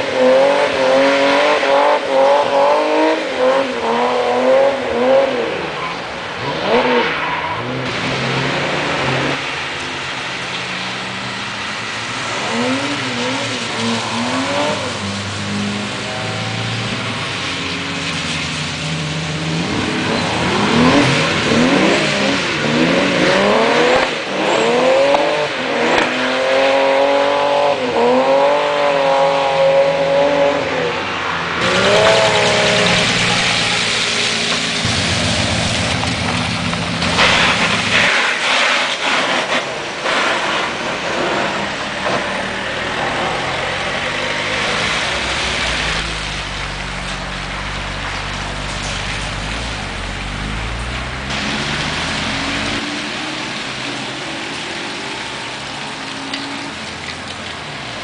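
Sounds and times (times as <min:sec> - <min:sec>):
tyre spray hissing on wet track: 0:00.0 - 0:30.5, 0:31.6 - 0:58.0
car engines revving hard: 0:00.0 - 0:58.0.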